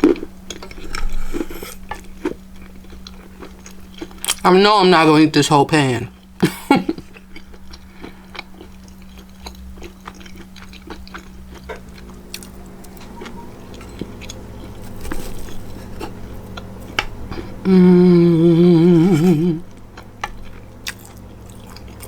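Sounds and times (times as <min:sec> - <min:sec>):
person chewing food: 0:00.0 - 0:04.4, 0:06.2 - 0:22.0
steady low hum: 0:00.0 - 0:22.0.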